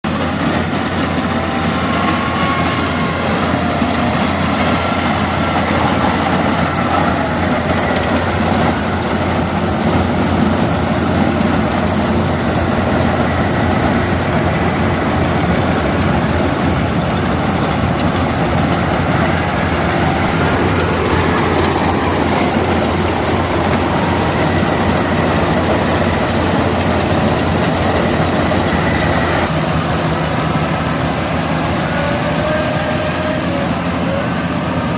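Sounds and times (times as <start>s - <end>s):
combine harvester diesel engine: 0.0s - 34.9s.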